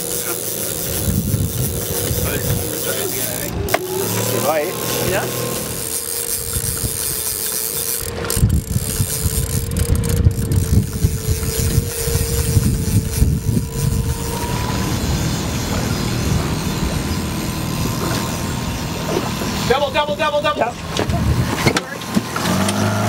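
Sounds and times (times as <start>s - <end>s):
outboard motor whine: 0.0s - 23.0s.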